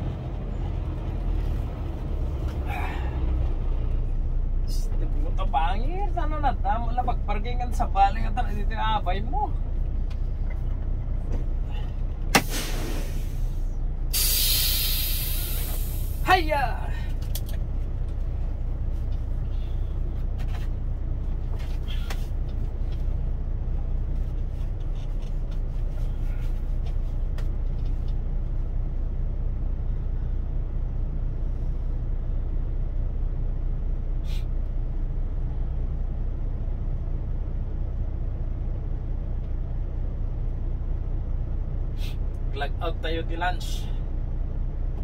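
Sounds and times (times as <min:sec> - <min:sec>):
truck diesel engine idling: 0:00.0 - 0:45.0.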